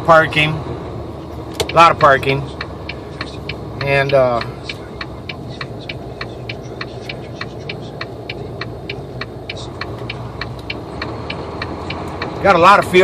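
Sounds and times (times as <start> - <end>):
diesel truck engine running: 0.0 - 13.0
light regular ticking: 0.9 - 13.0.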